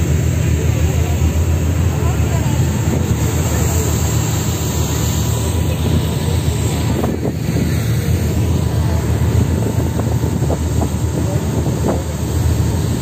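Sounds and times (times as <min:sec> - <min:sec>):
boat engine droning: 0:00.0 - 0:13.0
wind buffeting microphone: 0:01.2 - 0:13.0.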